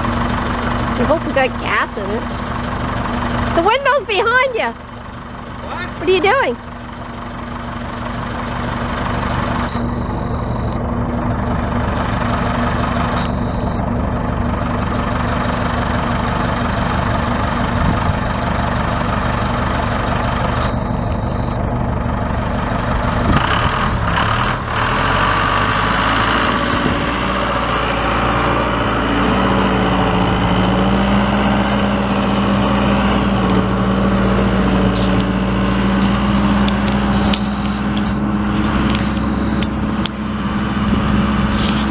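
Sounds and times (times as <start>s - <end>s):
backhoe engine running: 0.0s - 41.9s.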